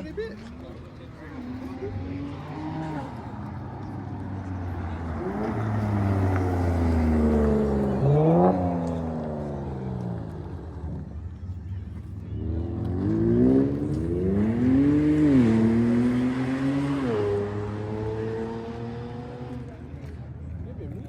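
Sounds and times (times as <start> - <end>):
vehicle engine revving: 1.2 - 11.4, 12.1 - 20.1.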